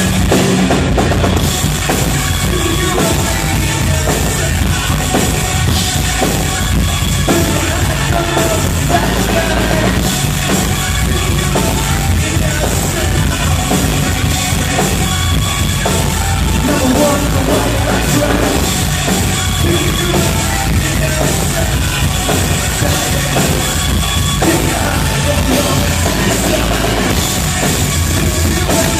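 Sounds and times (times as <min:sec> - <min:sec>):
drum kit beat: 0:00.0 - 0:28.9
rock band playing live: 0:00.0 - 0:28.9.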